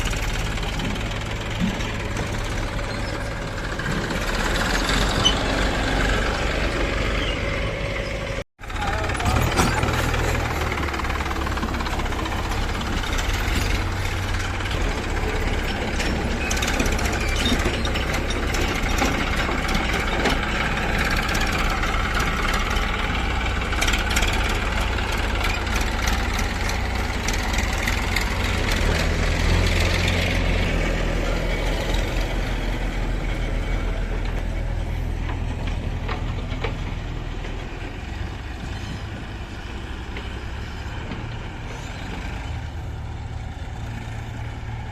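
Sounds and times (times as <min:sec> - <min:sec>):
heavy vehicle engine running: 0:00.0 - 0:44.9.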